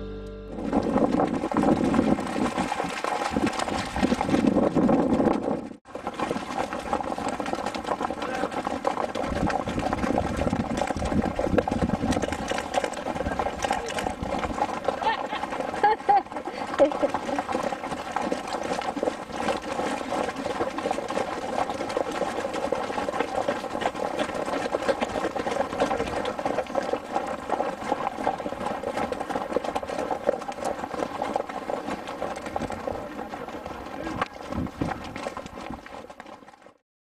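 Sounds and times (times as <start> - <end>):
horse hooves on dirt: 0.0 - 36.8.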